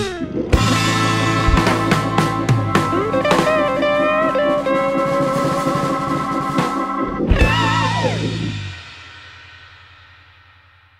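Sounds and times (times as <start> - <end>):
instrumental guitar and drum music: 0.0 - 10.5.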